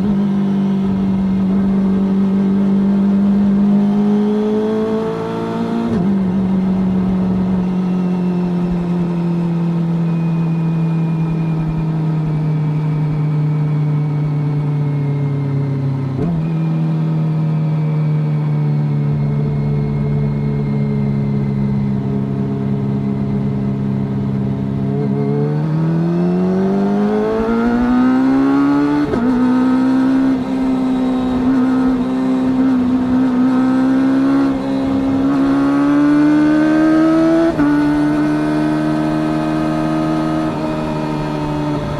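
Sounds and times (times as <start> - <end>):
motorcycle engine revving: 0.0 - 14.6, 15.2 - 41.9.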